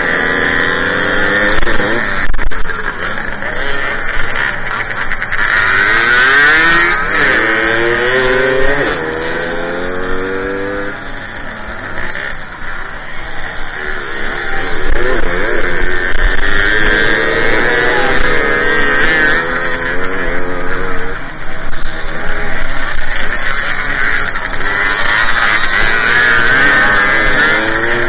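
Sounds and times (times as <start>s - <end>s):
moped engine revving: 0.0s - 28.0s.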